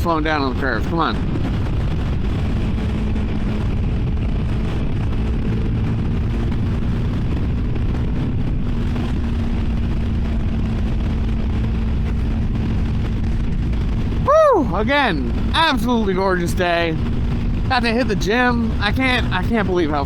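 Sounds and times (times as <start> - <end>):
motorcycle engine cruising: 0.0 - 20.0
wind rush on microphone: 0.0 - 20.0.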